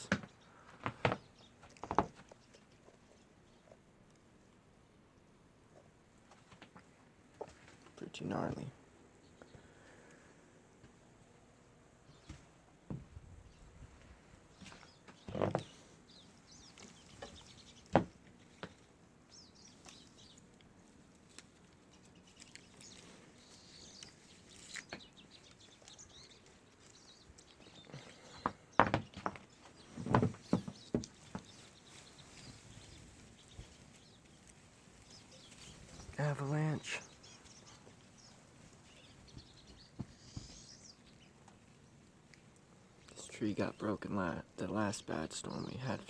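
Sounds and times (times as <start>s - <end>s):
songbirds chirping faintly: 0.0s - 46.0s.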